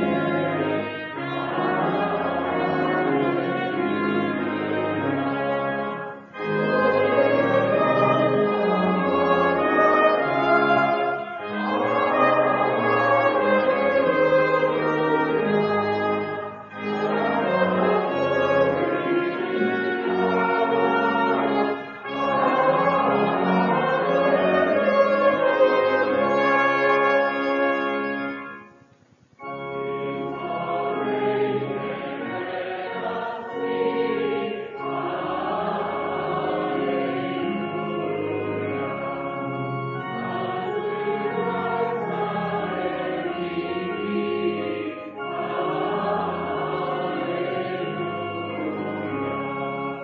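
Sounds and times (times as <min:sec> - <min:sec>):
voices singing a hymn: 0:00.0 - 0:28.4, 0:29.5 - 0:50.0
church organ: 0:00.0 - 0:50.0.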